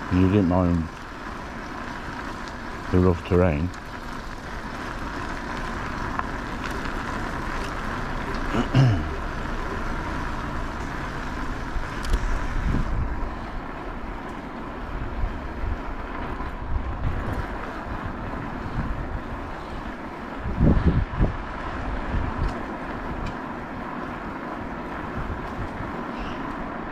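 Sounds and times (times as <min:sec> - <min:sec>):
wind and tyre rush: 0:00.0 - 0:26.9.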